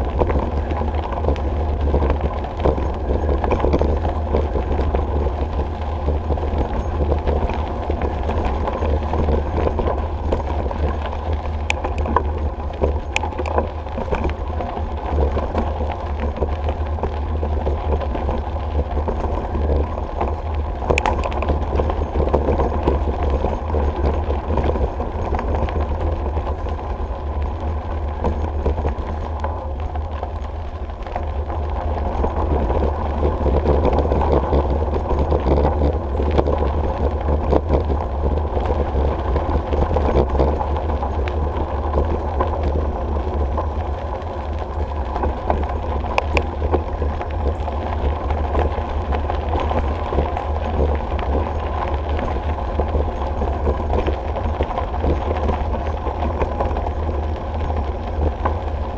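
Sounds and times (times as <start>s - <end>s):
bicycle tyres rolling on gravel: 0.0s - 58.9s
small clicks: 0.0s - 58.9s
wind rumble on microphone: 0.0s - 58.9s.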